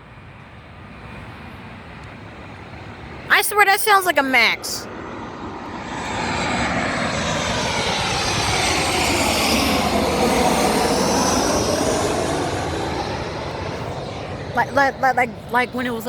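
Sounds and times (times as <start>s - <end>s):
jet airliner flying over: 0.0s - 16.0s.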